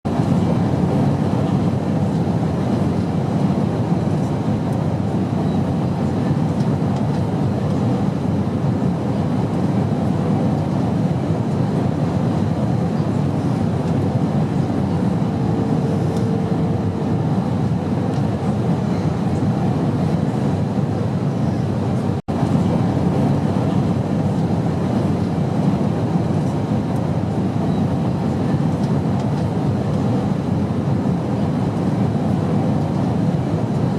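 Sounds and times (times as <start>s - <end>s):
airplane cabin engine and airflow noise: 0.0s - 33.9s.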